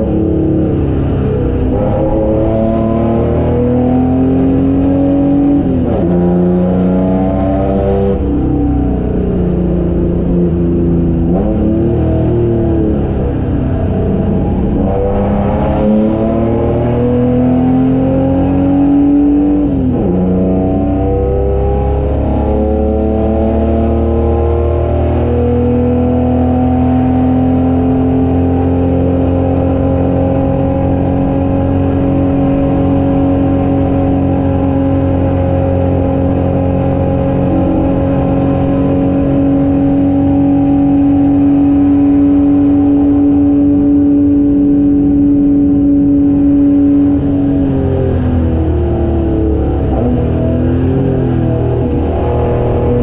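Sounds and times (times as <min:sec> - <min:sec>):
race car engine at full throttle: 0:00.0 - 0:53.0.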